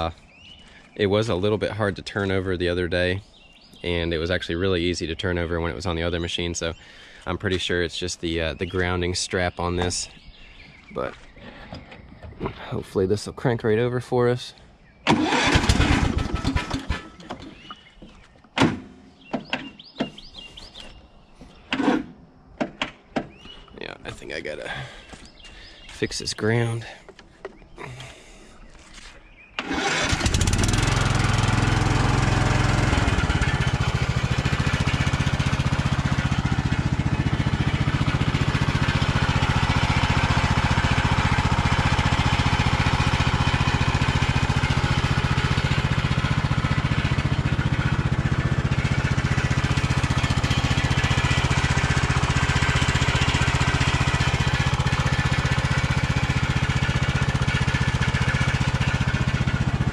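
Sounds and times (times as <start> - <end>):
riding mower engine starting and running: 0.0 - 13.4, 14.8 - 25.9, 26.8 - 59.9.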